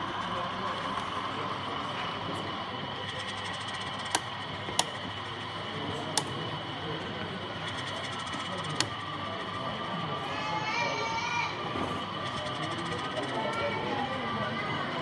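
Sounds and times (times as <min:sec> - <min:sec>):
crowd hubbub with indistinct voices: 0:00.0 - 0:15.0.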